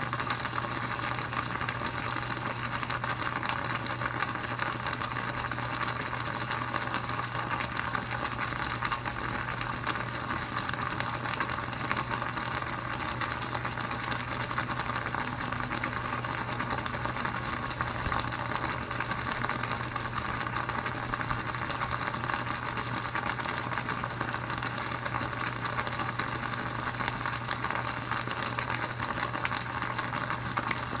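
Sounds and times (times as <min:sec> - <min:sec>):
low electrical hum: 0:00.0 - 0:31.0
water crackling and sizzling: 0:00.0 - 0:31.0.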